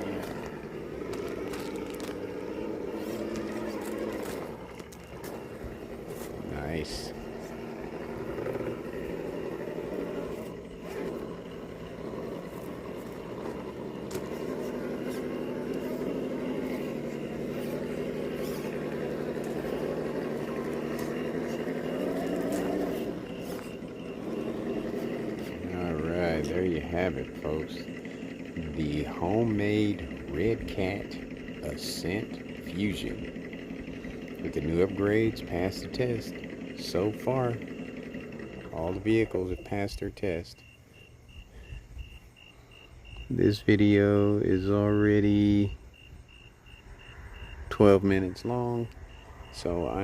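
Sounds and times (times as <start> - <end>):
electric motor whining: 0.0 - 40.1
tires scraping on rock: 0.0 - 40.4.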